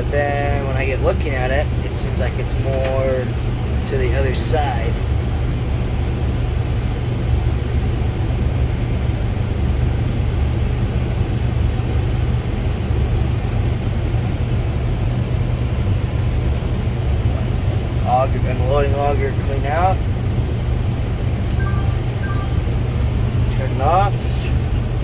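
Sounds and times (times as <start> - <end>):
diesel engine running under load: 0.0 - 25.0.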